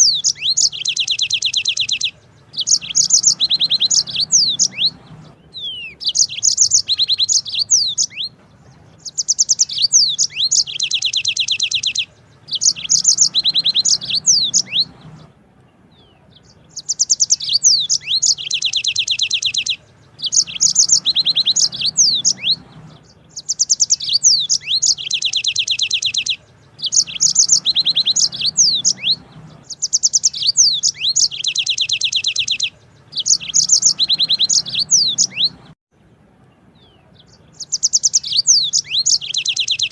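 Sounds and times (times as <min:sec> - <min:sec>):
canary singing trills: 0:00.0 - 0:35.8, 0:36.5 - 0:39.9.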